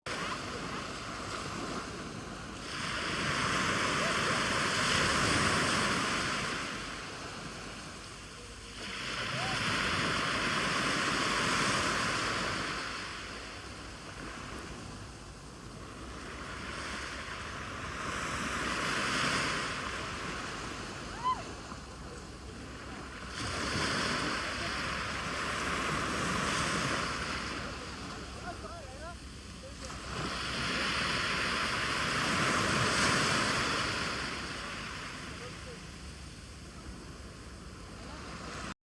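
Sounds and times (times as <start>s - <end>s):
sea waves washing in: 0.1s - 38.8s.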